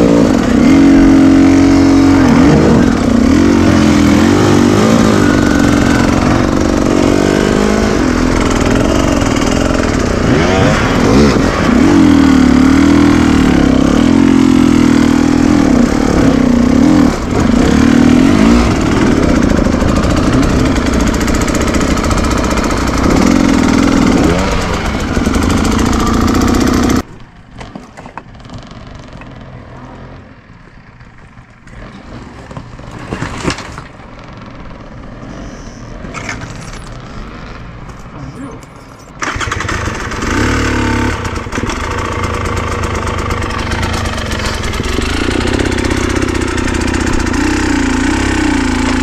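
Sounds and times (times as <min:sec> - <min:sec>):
motorcycle engine revving: 0:00.0 - 0:27.1, 0:28.3 - 0:37.9, 0:39.1 - 0:49.0.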